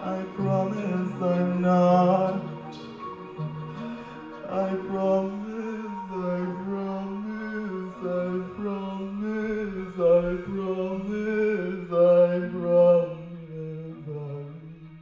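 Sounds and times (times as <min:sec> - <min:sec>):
person chanting long notes: 0:00.0 - 0:15.0.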